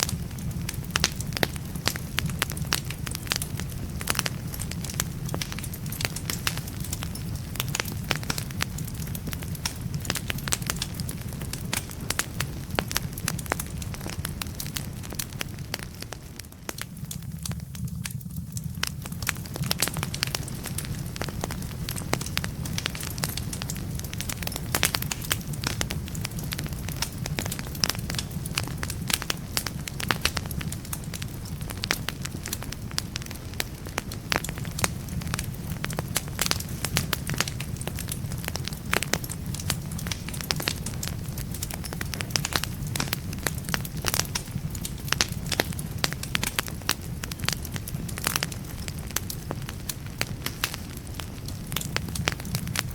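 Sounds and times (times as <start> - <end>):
logs crackling and popping: 0.0 - 52.9
low rumble of flames: 0.0 - 52.9.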